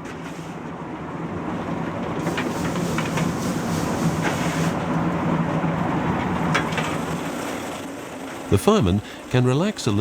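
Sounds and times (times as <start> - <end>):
steam locomotive rumble: 1.6 - 10.0.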